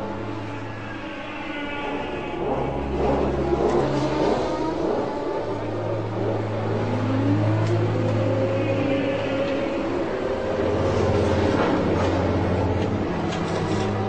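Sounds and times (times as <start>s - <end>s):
racing car engine revving: 1.8s - 14.0s.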